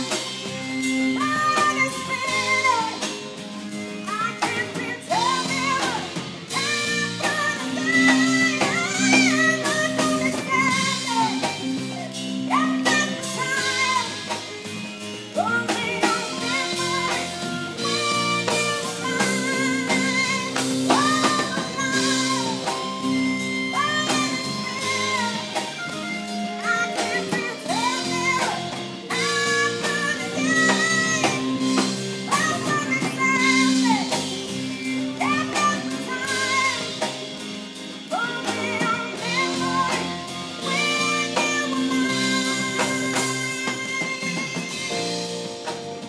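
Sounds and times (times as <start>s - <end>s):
drum kit: 0.0s - 46.0s
electric guitar: 0.0s - 46.0s
woman singing: 0.0s - 46.0s.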